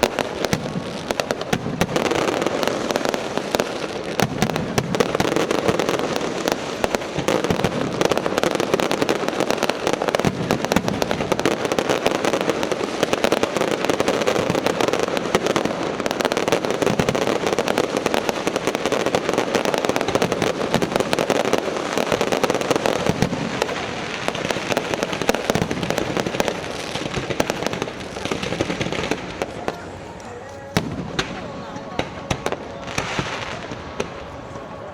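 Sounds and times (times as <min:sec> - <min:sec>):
fireworks crackling and popping: 0:00.0 - 0:34.9.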